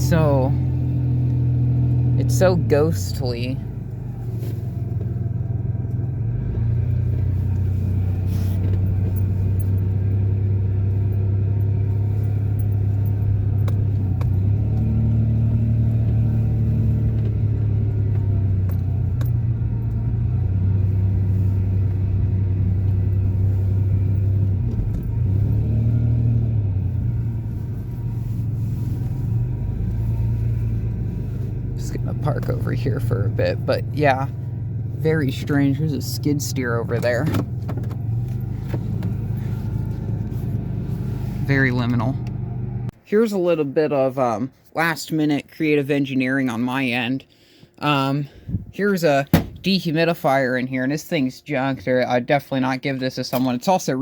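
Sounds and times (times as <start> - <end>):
truck engine drone: 0.0 - 45.6
road noise: 0.0 - 54.0.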